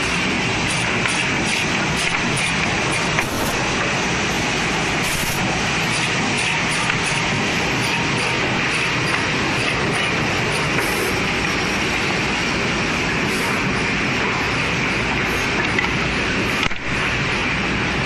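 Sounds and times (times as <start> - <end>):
woodworking machinery running: 0.0 - 18.0.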